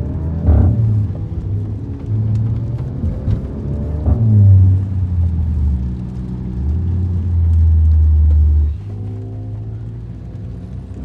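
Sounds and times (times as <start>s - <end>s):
car engine droning and revving: 0.0s - 11.0s.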